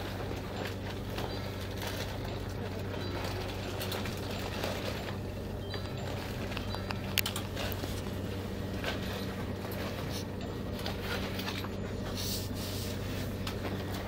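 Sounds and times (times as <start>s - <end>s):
train carriage hum: 0.0s - 14.0s.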